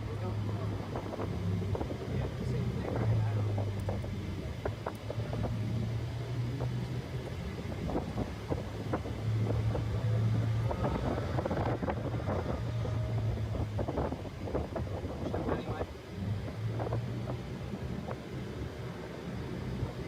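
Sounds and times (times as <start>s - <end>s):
car engine drone: 0.0s - 20.0s
road rumble: 0.0s - 20.0s
wind buffeting microphone: 0.0s - 20.0s.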